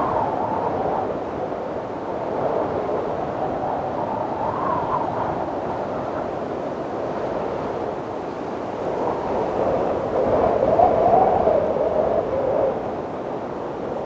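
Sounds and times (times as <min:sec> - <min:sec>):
whistling wind gust: 0:00.0 - 0:14.0.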